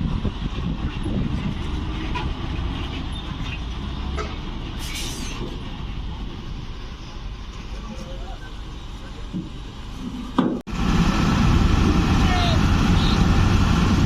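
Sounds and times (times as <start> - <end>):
diesel truck engines rumbling: 0.0 - 14.0.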